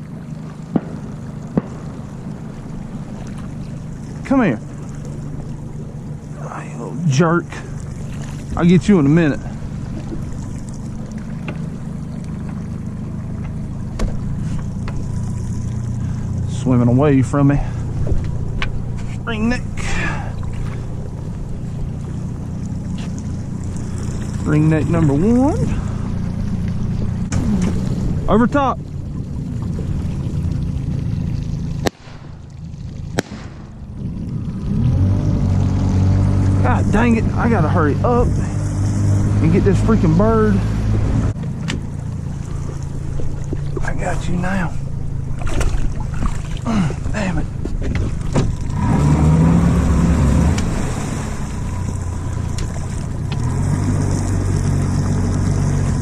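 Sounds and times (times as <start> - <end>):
outboard motor running: 0.0 - 56.0
water trickling along hull: 0.0 - 56.0.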